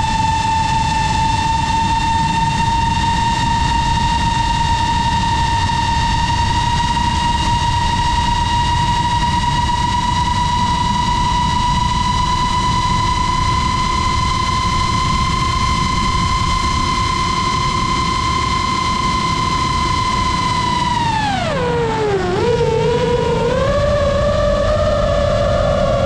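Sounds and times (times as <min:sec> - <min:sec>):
drone motors whining: 0:00.0 - 0:26.0
wind rumble on microphone: 0:00.0 - 0:26.0.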